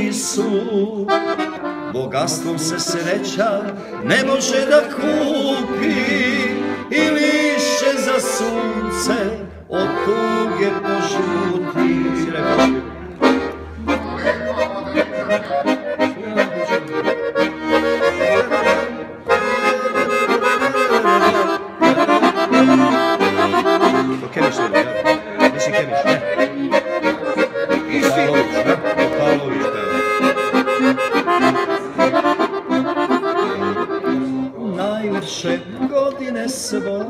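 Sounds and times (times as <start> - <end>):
button accordion playing: 0.0 - 37.0.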